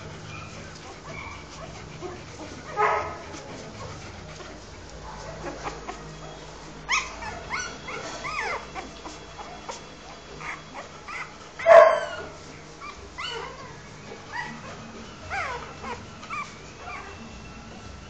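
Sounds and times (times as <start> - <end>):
puppy squealing: 0.2 - 4.0, 5.2 - 17.2.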